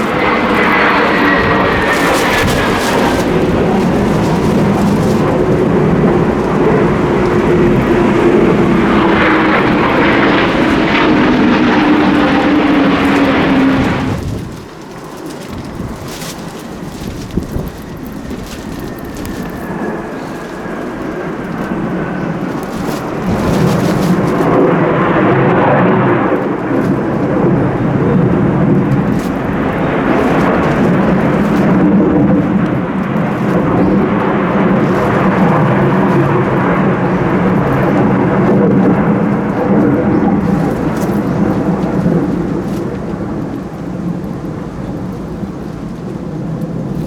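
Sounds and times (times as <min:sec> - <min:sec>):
jet aircraft passing overhead: 0:00.0 - 0:47.0
wind gusting on microphone: 0:00.0 - 0:47.0.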